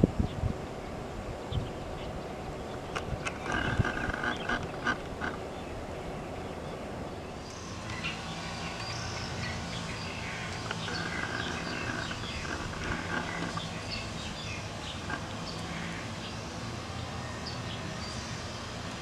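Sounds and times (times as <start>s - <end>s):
steady low hum: 0.0s - 19.0s
small birds chirping: 0.2s - 19.0s.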